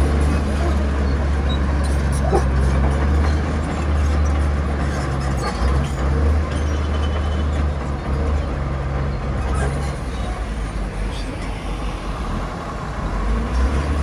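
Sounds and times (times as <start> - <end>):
bulldozer diesel engine: 0.0 - 14.0.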